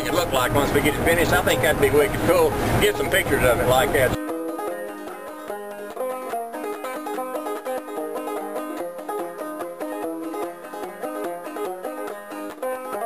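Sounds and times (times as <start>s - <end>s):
bluegrass music with banjo: 0.0s - 13.0s.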